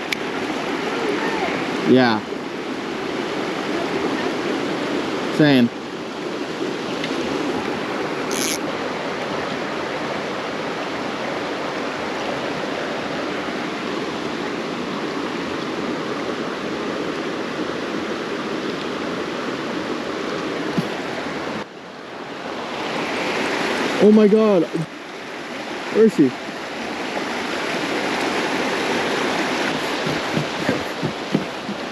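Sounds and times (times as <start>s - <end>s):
water running over rocks: 0.0s - 21.7s, 22.5s - 31.9s.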